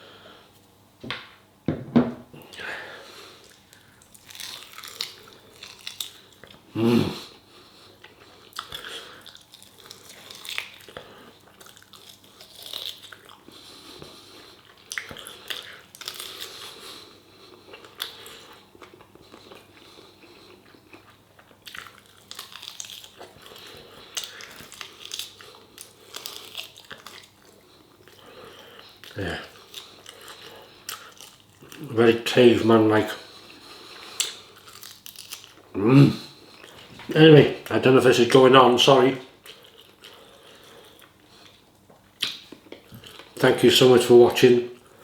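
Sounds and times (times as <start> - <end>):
man chewing food: 2.3 - 32.2, 32.9 - 37.7, 39.2 - 43.4, 44.7 - 45.0.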